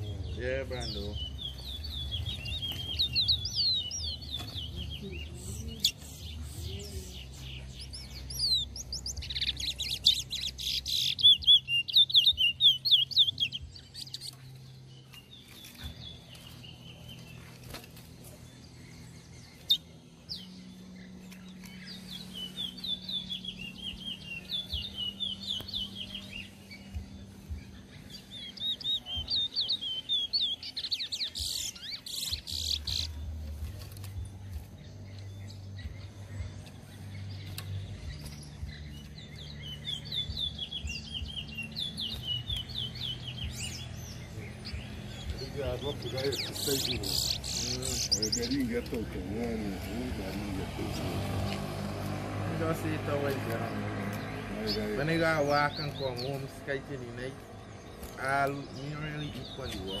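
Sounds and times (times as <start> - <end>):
finches singing warbling phrases: 0.0 - 60.0.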